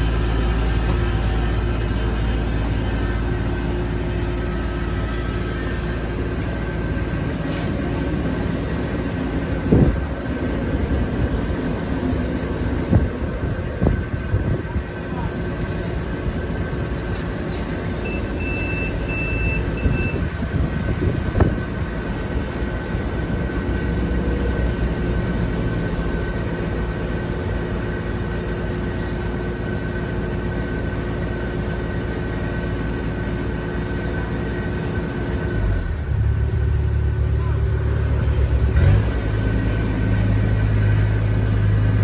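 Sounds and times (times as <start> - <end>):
combine harvester droning: 0.0 - 42.0.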